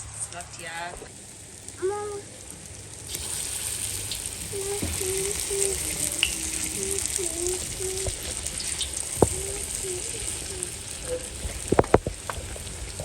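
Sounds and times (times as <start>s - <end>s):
dough deep-frying in hot oil: 0.0s - 13.0s.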